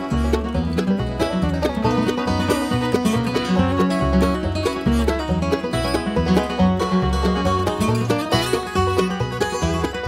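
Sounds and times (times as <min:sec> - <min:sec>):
banjo picking: 0:00.0 - 0:10.0
bass line: 0:00.0 - 0:10.0.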